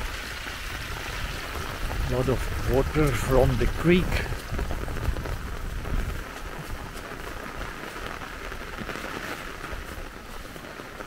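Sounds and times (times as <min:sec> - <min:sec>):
rain hissing on wet ground: 0:00.0 - 0:11.0.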